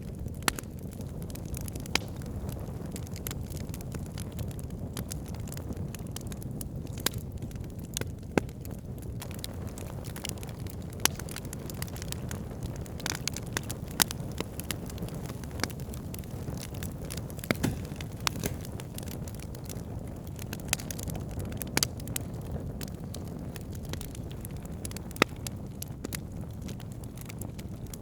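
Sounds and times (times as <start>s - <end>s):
campfire burning with crackles: 0.0s - 28.0s.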